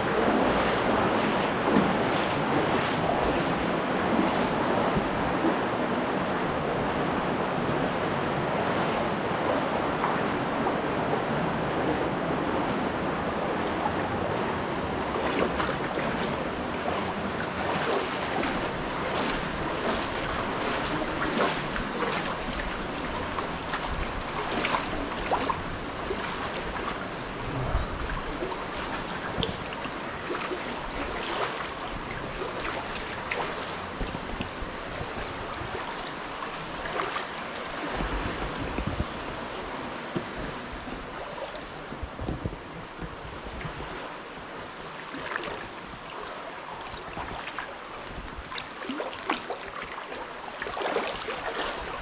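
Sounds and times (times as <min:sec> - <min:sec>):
creek rushing over rocks: 0:00.0 - 0:52.0.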